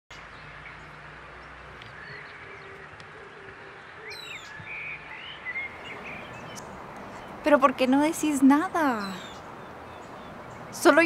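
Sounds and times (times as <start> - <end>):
small birds chirping: 0.1 - 11.0
background hiss: 0.4 - 11.0.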